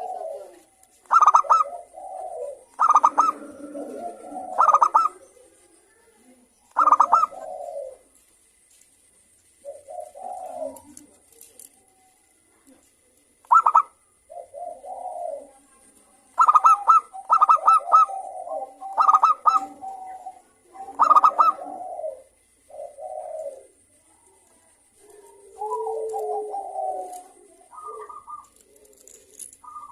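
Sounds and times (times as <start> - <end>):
doves cooing: 0.0 - 8.4, 9.1 - 29.9.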